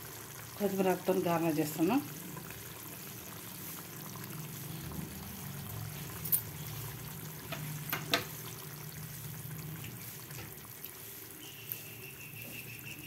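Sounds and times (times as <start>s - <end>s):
curry bubbling in pot: 0.0s - 13.0s.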